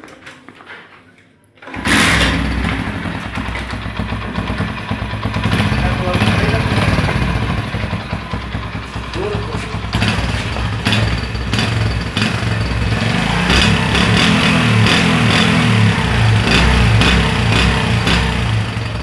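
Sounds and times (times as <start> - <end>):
motorcycle engine running: 1.7 - 19.0.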